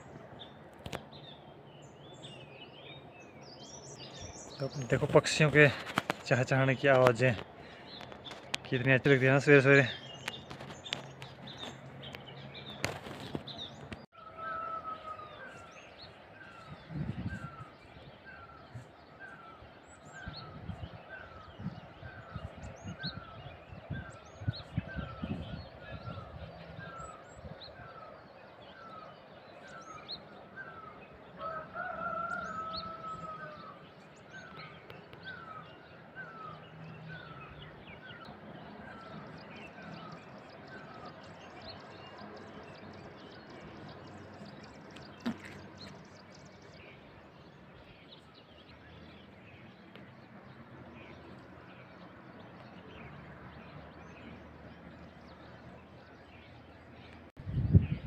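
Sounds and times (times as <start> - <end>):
longer lower bird call: 0.0 - 50.3.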